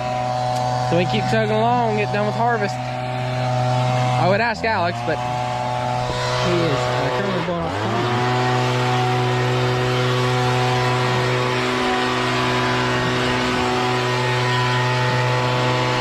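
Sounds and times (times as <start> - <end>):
engine humming at high speed: 0.0 - 16.0.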